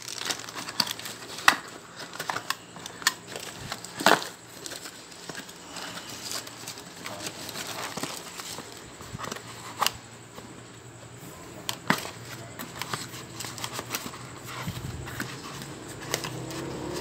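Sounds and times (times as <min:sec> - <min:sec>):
plastic packaging rustling: 0:00.0 - 0:17.0.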